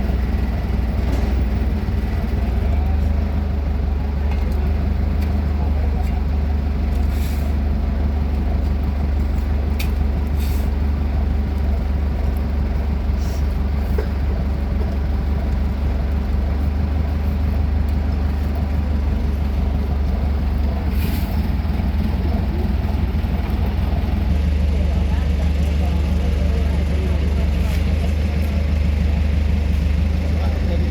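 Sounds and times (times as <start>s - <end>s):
diesel machinery engine rumble: 0.0s - 30.9s.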